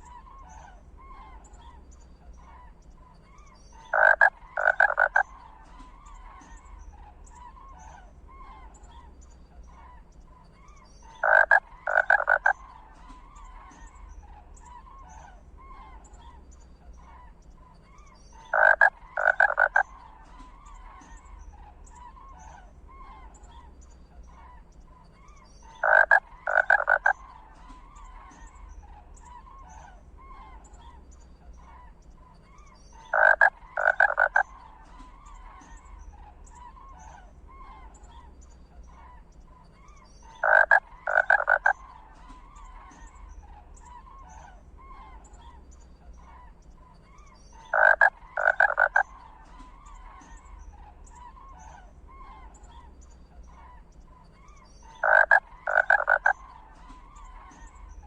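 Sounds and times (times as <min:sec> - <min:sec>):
chorus of small chirping calls: 0:00.0 - 0:58.0.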